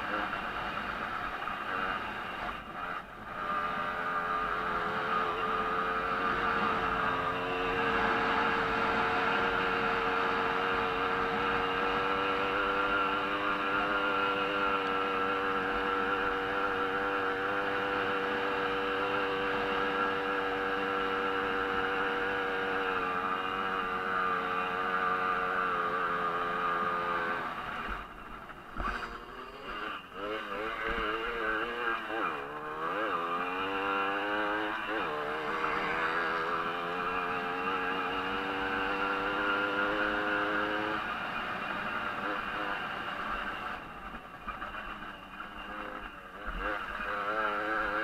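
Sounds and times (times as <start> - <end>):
moped engine revving: 1.6 - 48.0.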